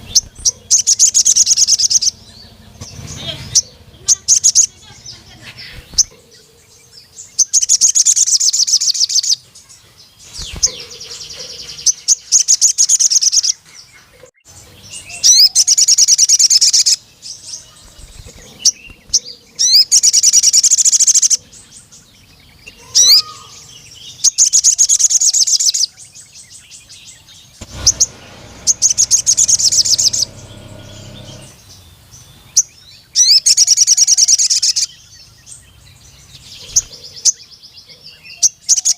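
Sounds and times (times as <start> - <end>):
sharp bird chirps: 0.0 - 9.4, 10.2 - 13.6, 14.3 - 38.9
bird trilling song: 0.0 - 38.9.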